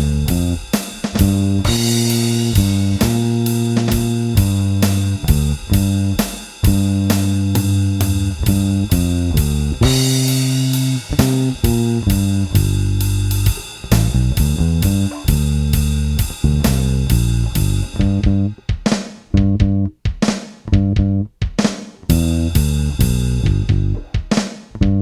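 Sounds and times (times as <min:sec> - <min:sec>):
electric bass playing blues line: 0:00.0 - 0:18.6, 0:19.3 - 0:20.0, 0:20.7 - 0:21.3, 0:22.0 - 0:24.2, 0:24.8 - 0:25.0
drums: 0:00.0 - 0:25.0.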